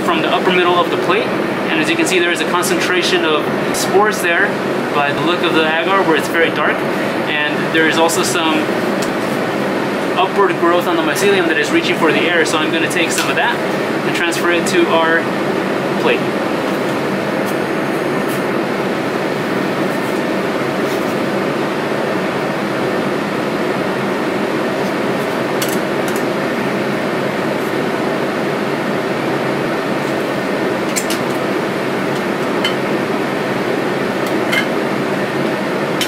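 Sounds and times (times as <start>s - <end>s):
fan whirring: 0.0s - 36.0s.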